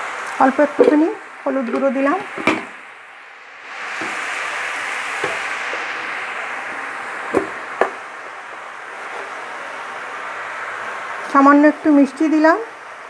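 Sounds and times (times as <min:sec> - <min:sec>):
spinach sizzling in a pan: 0:00.0 - 0:03.0, 0:03.6 - 0:12.8.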